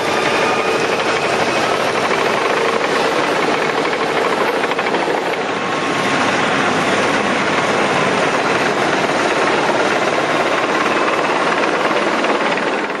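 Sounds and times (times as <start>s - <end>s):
combine harvester running: 0.0s - 13.0s.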